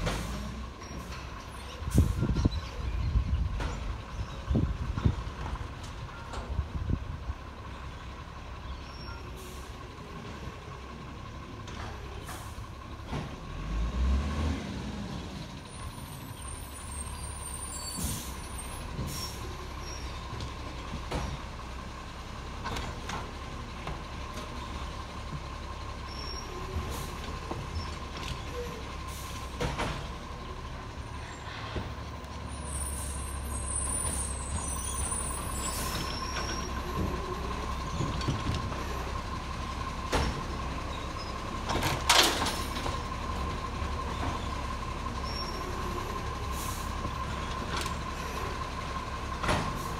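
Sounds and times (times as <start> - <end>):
garbage truck diesel engine: 0.0 - 49.9.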